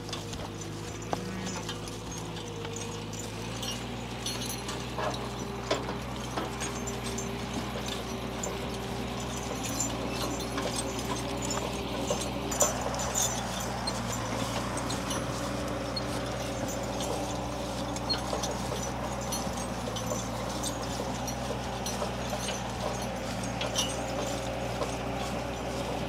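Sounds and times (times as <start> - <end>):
hooves clopping: 0.0 - 26.0
wagons knocking and rattling: 0.0 - 26.0.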